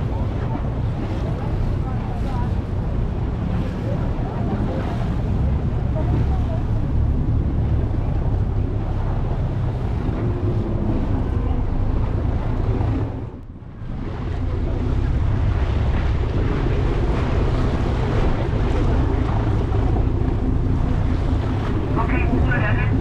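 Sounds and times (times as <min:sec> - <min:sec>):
motorboat engine running: 0:00.0 - 0:23.0
water rushing against hull: 0:00.0 - 0:23.0
wind buffeting microphone: 0:00.0 - 0:23.0.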